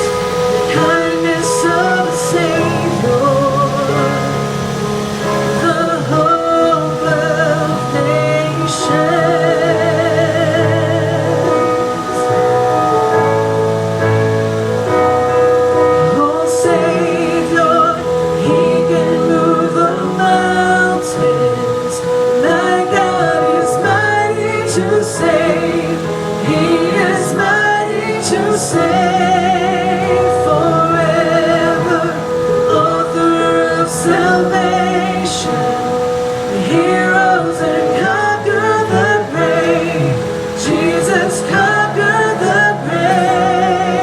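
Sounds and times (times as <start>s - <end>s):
woman singing worship song: 0.0s - 12.7s, 15.9s - 44.0s.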